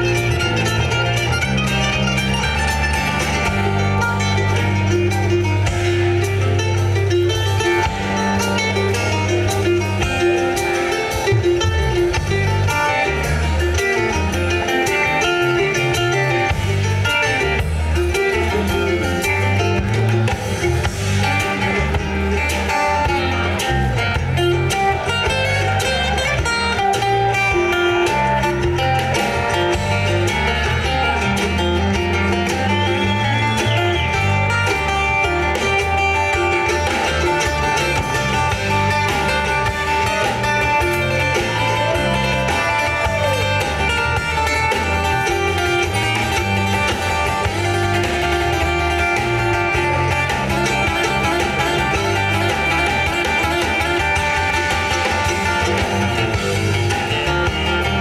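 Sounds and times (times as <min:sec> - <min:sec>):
bluegrass band playing: 0:00.0 - 0:58.0.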